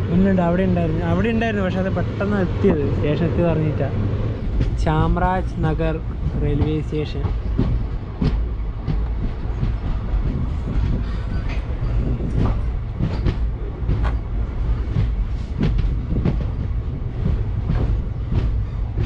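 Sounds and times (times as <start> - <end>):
train coach rumble: 0.0 - 19.0.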